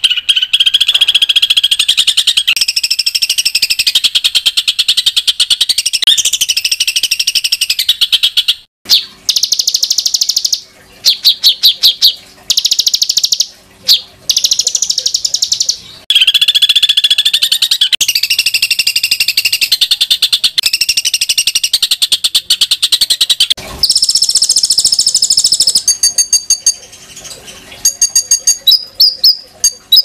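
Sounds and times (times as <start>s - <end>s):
songbird rapid-fire song: 0.0s - 30.0s.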